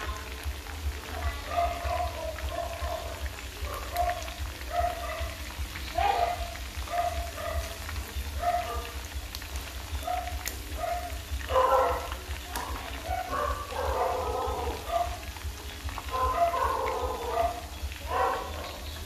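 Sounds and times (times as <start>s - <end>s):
meat sizzling in hot oil: 0.0s - 19.0s
soft background melody: 0.0s - 19.0s.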